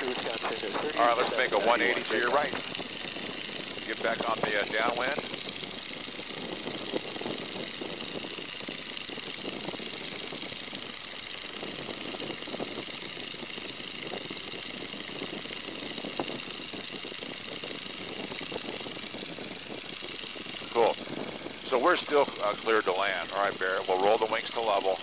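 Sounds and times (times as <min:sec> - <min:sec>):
biplane radial engine running: 0:00.0 - 0:25.0.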